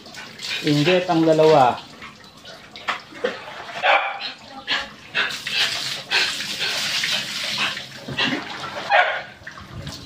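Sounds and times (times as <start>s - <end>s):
water splashing and pouring: 0.0s - 10.0s.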